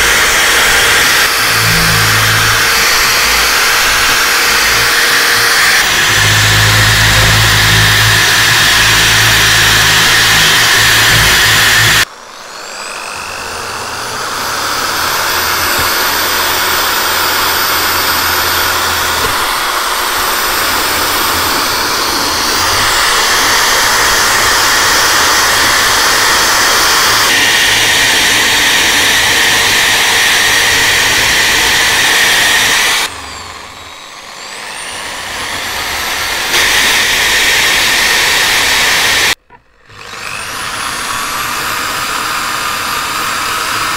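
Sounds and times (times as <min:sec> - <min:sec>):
drill wire brush scrubbing metal: 0:00.0 - 0:43.9.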